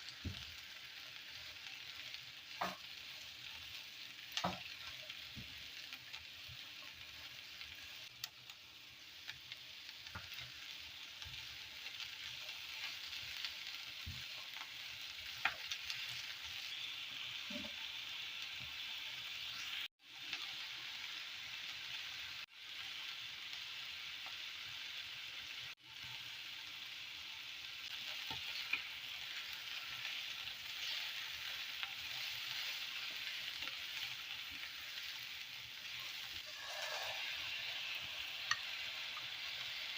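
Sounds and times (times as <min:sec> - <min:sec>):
food frying in hot oil: 0:00.0 - 0:39.9.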